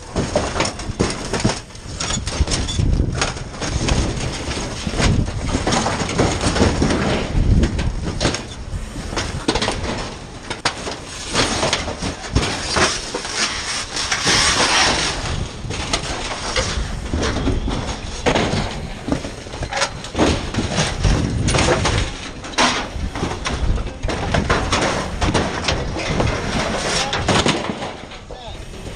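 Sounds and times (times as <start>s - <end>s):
crackles and knocks: 0.0s - 28.9s.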